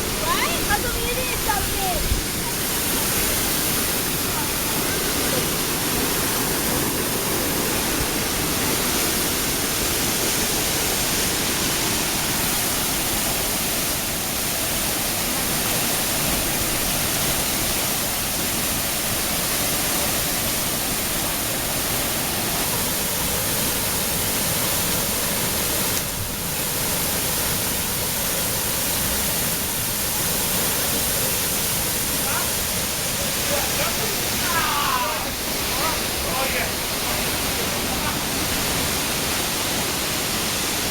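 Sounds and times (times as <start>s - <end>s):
waterfall pouring: 0.0s - 40.9s.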